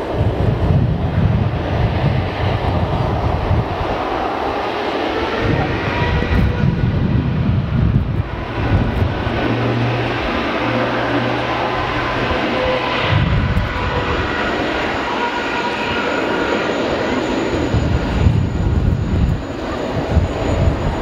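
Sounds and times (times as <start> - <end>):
high-pitched engine whine: 0.0 - 21.0
jet engines rumbling: 0.0 - 21.0.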